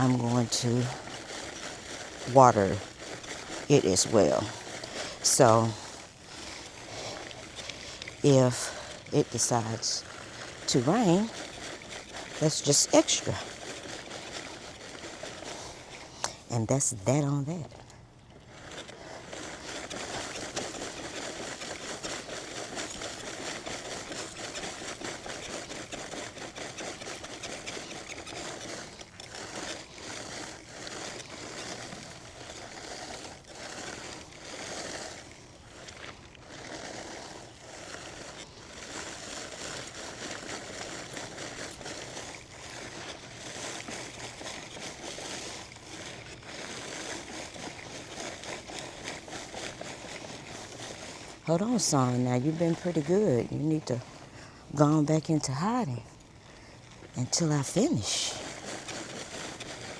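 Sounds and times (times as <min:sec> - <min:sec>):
lawn spreader rattling: 0:00.0 - 0:59.9.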